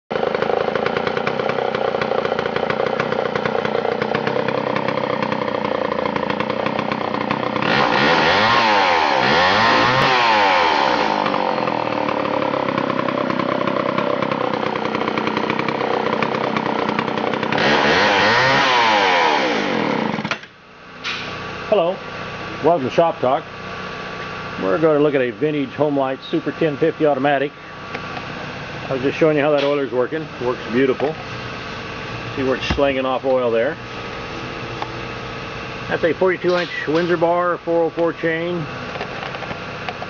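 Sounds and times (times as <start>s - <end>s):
chainsaw running and revving: 0.1s - 20.5s, 23.7s - 40.0s.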